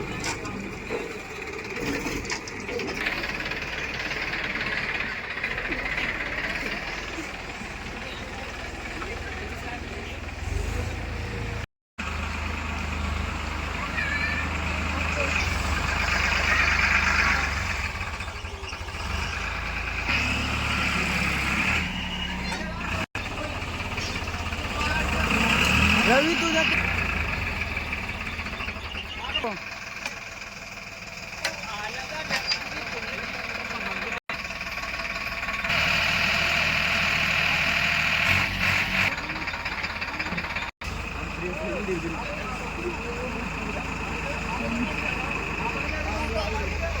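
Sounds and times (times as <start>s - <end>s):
diesel engines running: 0.0s - 47.0s.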